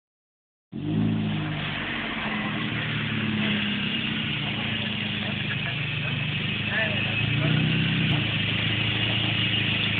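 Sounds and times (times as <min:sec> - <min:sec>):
car engine running steadily: 0:00.7 - 0:09.9.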